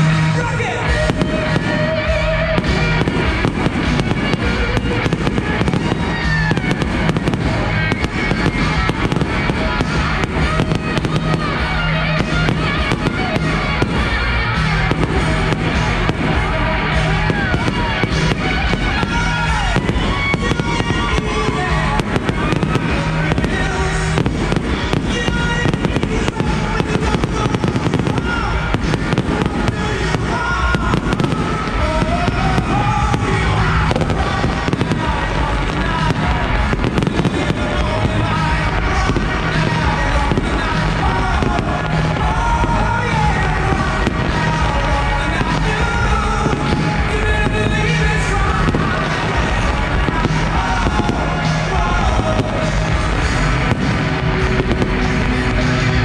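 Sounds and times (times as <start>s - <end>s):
firework whistles: 0.0s - 56.0s
fireworks bursting and crackling: 0.0s - 56.0s
music soundtrack: 0.0s - 56.0s.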